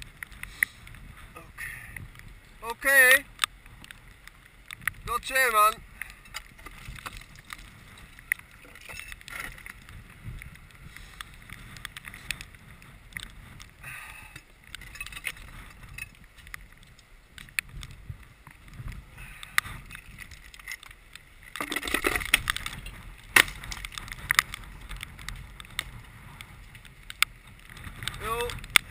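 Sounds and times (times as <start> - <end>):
low wind rumble on microphone: 0.0 - 28.9.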